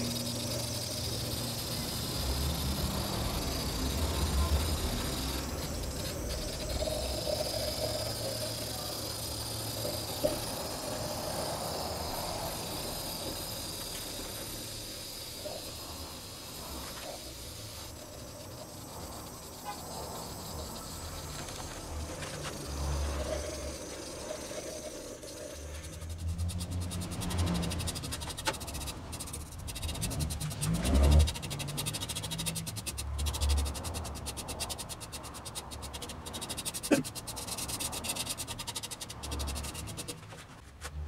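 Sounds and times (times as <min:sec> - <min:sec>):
gas torch hissing: 0:00.0 - 0:40.1.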